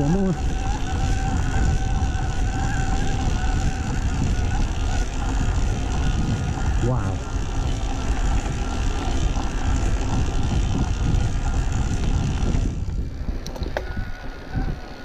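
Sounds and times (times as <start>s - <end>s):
electric motor whine: 0.0s - 15.0s
tyres on gravel: 0.0s - 15.0s
wind on microphone: 0.0s - 15.0s.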